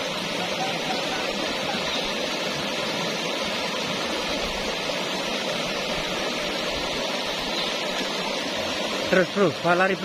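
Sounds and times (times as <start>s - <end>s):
river current rushing: 0.0s - 10.0s.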